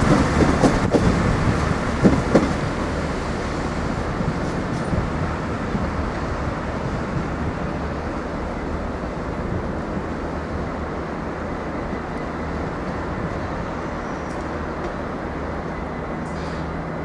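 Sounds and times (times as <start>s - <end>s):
train diesel engines droning: 0.0s - 17.0s.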